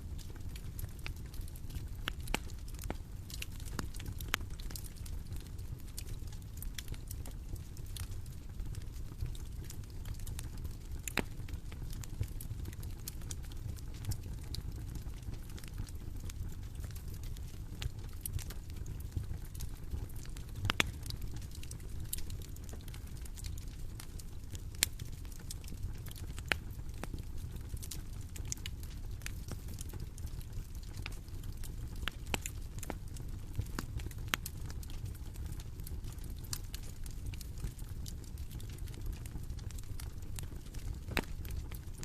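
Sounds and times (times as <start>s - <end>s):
bonfire flames rumbling: 0.0s - 42.0s
wood popping and crackling: 0.1s - 42.0s.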